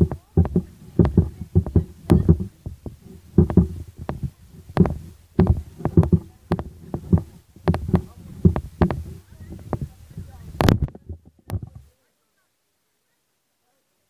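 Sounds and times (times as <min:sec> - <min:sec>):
low microphone thumps: 0:00.0 - 0:11.9.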